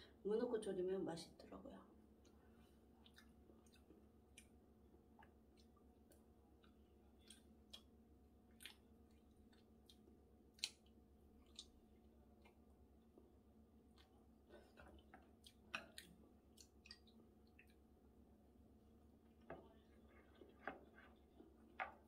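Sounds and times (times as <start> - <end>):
soft chewing: 2.1 - 22.0.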